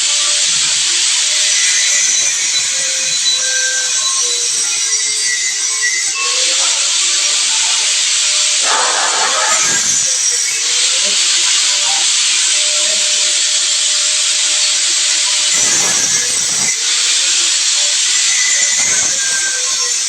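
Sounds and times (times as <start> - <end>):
high-pressure sprayer jet hissing: 0.0 - 20.0.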